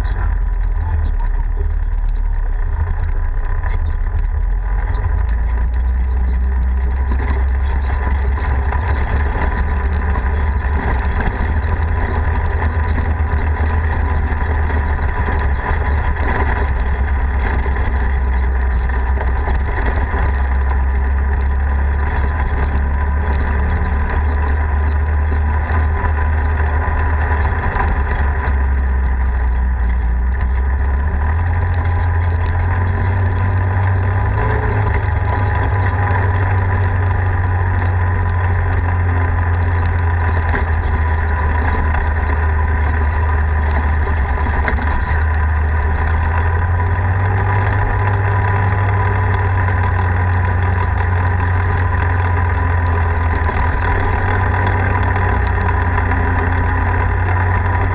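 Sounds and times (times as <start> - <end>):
off-road vehicle engine rumbling: 0.0 - 57.9.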